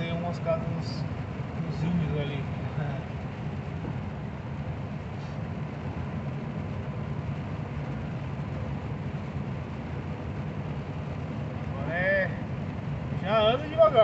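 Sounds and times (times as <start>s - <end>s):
truck engine drone: 0.0s - 14.0s.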